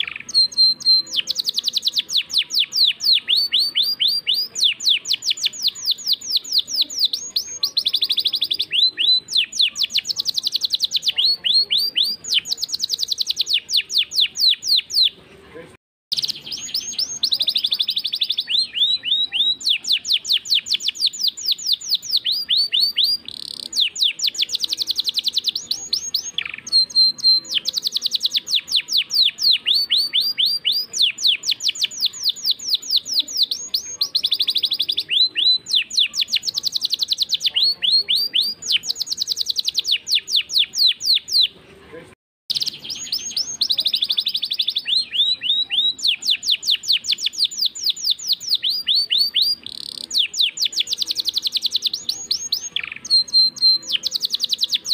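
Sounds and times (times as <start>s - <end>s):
canary singing rapid trills: 0.0s - 15.2s, 16.1s - 41.6s, 42.5s - 54.9s.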